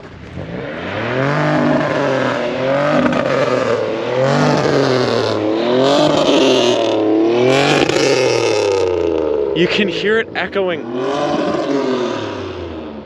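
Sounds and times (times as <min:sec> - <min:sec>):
car engine revving hard: 0:00.2 - 0:13.0.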